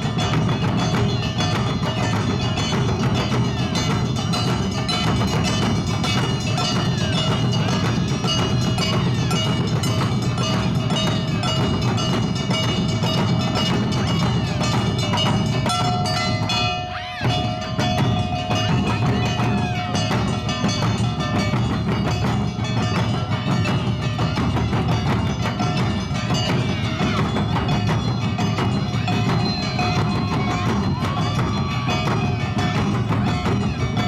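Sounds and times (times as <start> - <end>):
hand gongs and drums beating: 0.0 - 34.0.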